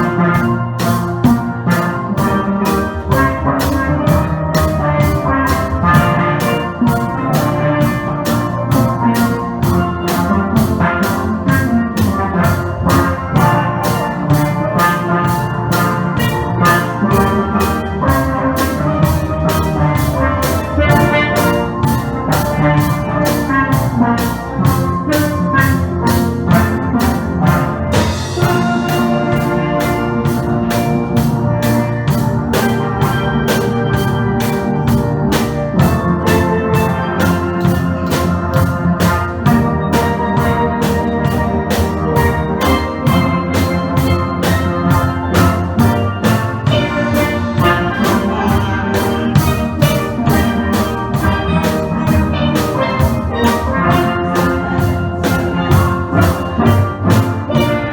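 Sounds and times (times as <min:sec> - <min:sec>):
percussion beat: 0:00.0 - 0:57.9
steel pan band playing: 0:00.0 - 0:57.9.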